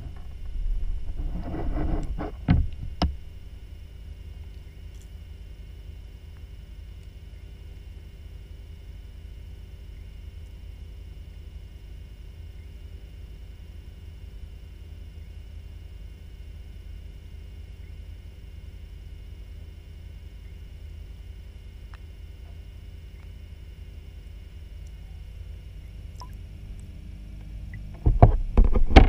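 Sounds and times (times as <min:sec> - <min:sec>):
faint steady tones: 0:00.0 - 0:28.0
underwater equipment hum: 0:00.0 - 0:29.0.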